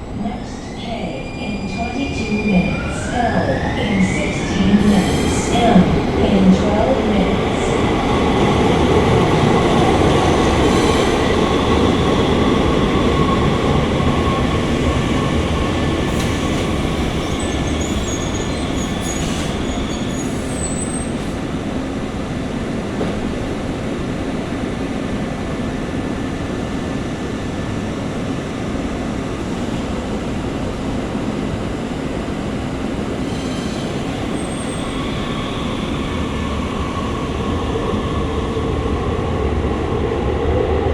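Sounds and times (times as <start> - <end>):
light rail train rumbling: 0.0 - 40.9.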